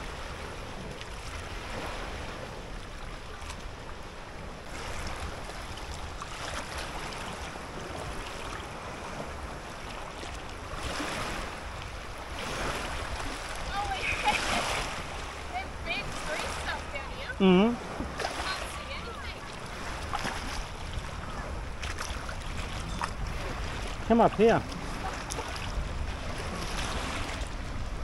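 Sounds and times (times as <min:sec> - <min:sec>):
moving water: 0:00.0 - 0:28.0
wind rumbling on microphone: 0:00.0 - 0:28.0.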